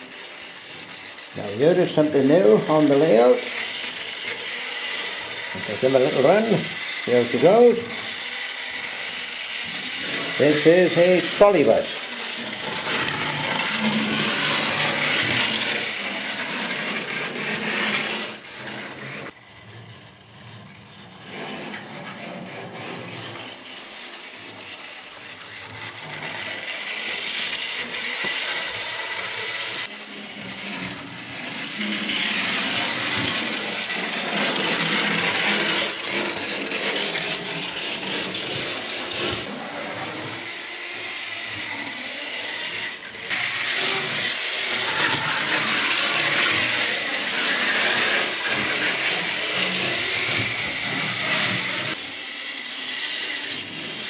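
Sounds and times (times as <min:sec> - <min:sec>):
model tram whirring and rattling: 0:00.0 - 0:54.0.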